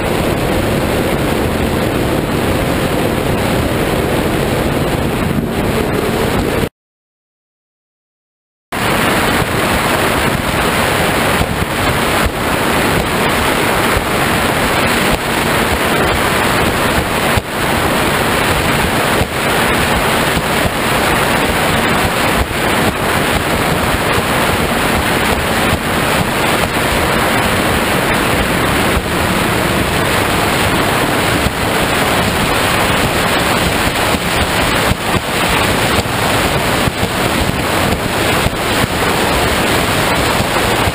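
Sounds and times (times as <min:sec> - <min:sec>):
water rushing along hull: 0:00.0 - 0:06.7, 0:08.8 - 0:40.9
wind buffeting microphone: 0:00.0 - 0:06.7, 0:08.8 - 0:40.9.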